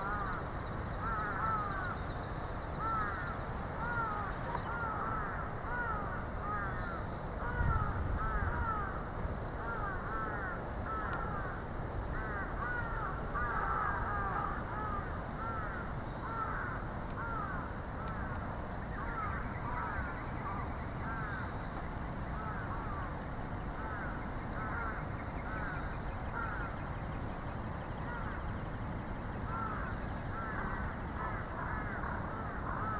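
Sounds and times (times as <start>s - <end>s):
birds calling: 0.0s - 7.1s, 9.8s - 32.9s.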